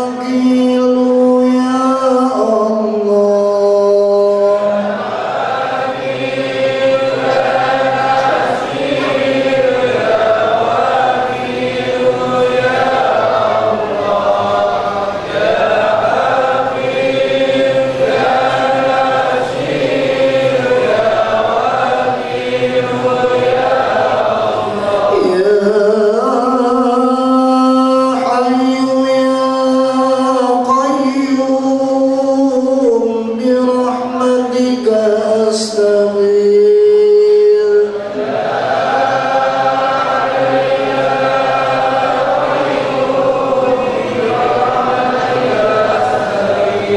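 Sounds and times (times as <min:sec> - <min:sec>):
men chanting in unison: 0:00.0 - 0:46.9.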